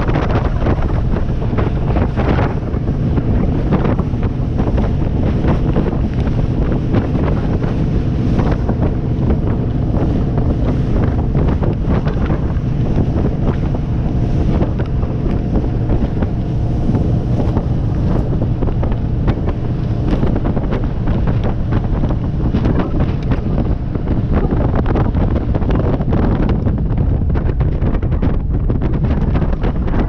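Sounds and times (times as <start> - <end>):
boat engine rumble: 0.0 - 30.0
hull running through water: 0.0 - 30.0
wind buffeting microphone: 0.0 - 30.0.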